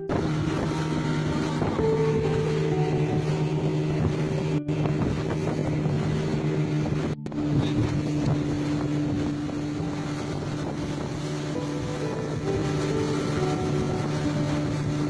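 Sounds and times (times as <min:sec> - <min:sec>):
boat engine running: 0:00.0 - 0:15.0
water noise: 0:00.0 - 0:15.0
wind: 0:00.0 - 0:15.0.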